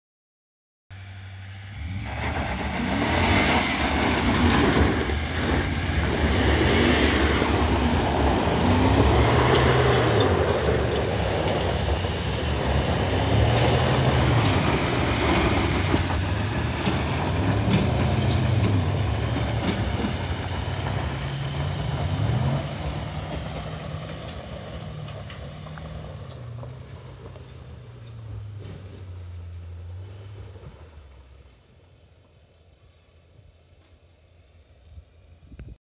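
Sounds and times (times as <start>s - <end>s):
truck engines revving hard: 1.0s - 31.6s
tires spinning on dirt: 1.0s - 34.8s.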